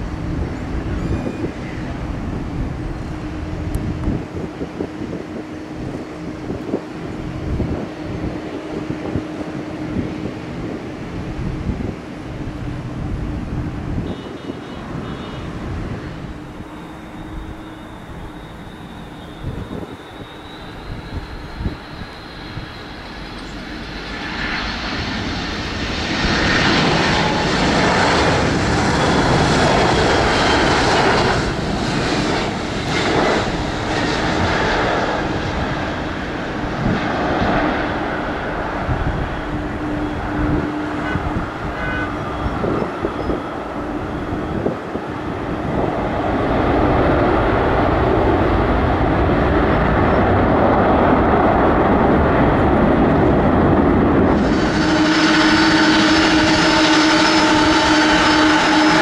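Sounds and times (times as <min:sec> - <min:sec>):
jet plane landing: 0:00.0 - 0:59.0.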